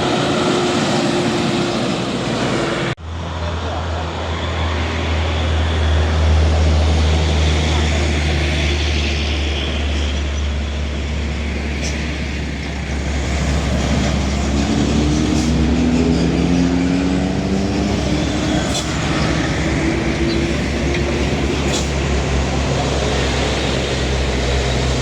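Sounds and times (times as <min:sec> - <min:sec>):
truck engine rumbling: 0:00.0 - 0:25.0.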